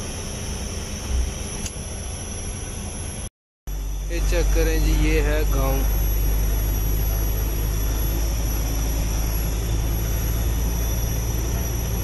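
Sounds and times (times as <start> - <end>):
truck diesel engine drone: 0.0 - 12.0
road noise: 1.0 - 12.0.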